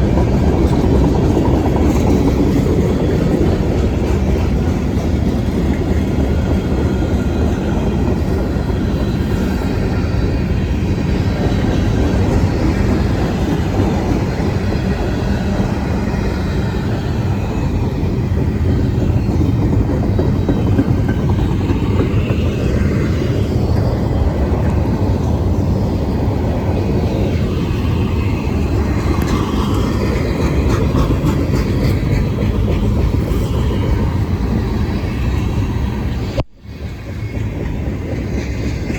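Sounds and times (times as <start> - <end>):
freight train rolling on rails: 0.0 - 38.9.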